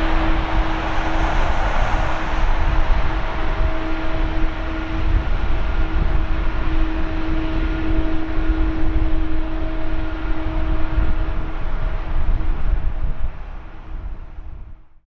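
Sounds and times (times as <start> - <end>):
jet engines rumbling: 0.0 - 14.4
steady humming tone: 0.0 - 14.6.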